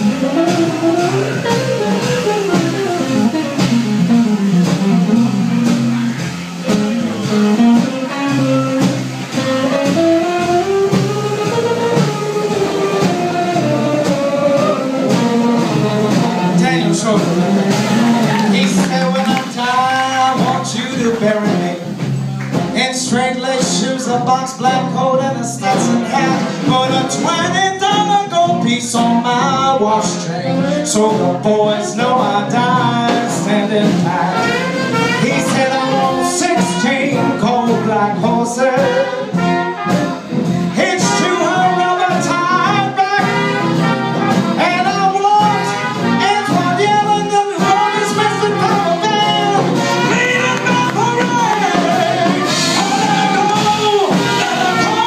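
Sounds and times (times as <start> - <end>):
drums: 0.0 - 55.0
guitar: 0.0 - 55.0
lead melody line: 0.0 - 55.0
upright bass: 0.0 - 55.0.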